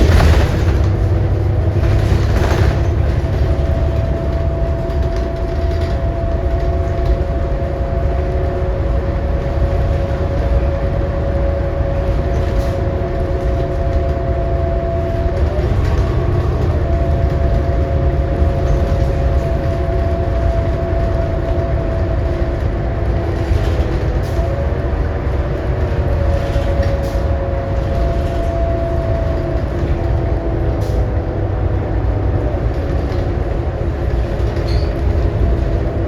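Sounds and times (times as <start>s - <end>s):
bus rumbling under way: 0.0s - 36.0s.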